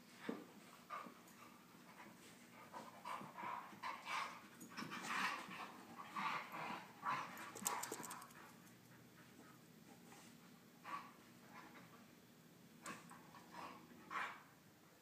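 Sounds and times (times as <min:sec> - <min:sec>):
dogs panting: 0:00.2 - 0:12.1, 0:12.9 - 0:14.5.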